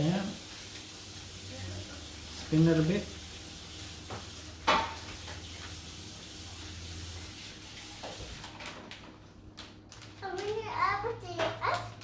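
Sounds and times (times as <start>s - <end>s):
room noise hiss and hum: 0.0s - 12.0s.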